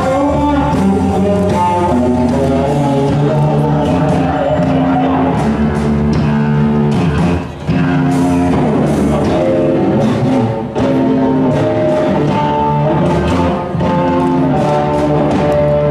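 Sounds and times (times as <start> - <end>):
rock music with guitar and drums: 0.0 - 15.9.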